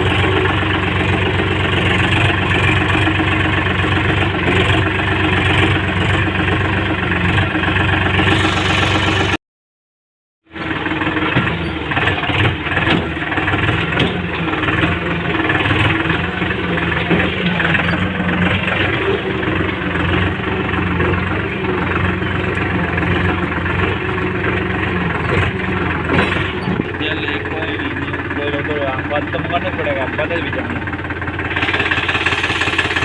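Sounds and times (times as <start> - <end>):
tractor engine idling: 0.0 - 9.4, 10.5 - 33.0.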